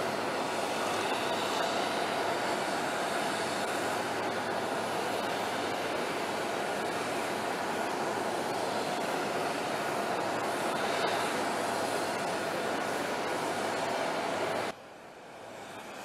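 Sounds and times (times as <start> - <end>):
jet aircraft engine drone: 0.0 - 16.0.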